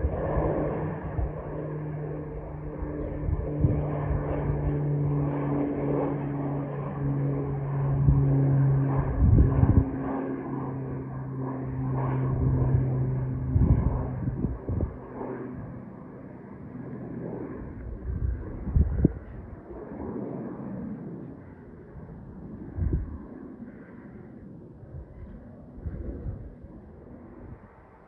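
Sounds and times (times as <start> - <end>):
wind gusts on microphone: 0.0 - 15.8, 17.3 - 20.8, 21.8 - 23.8, 24.8 - 28.0
airplane engine drone: 0.0 - 28.0.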